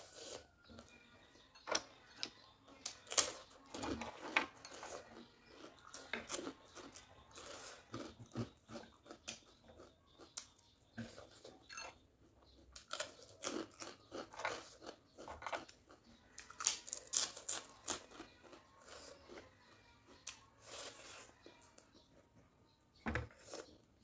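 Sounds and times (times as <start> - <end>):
person chewing crunchy food: 0.0 - 22.0, 23.3 - 23.9.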